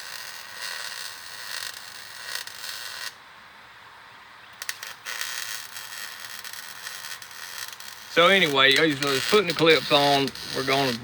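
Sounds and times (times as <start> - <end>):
welding arc crackling and hissing: 0.0 - 3.2, 4.6 - 11.0.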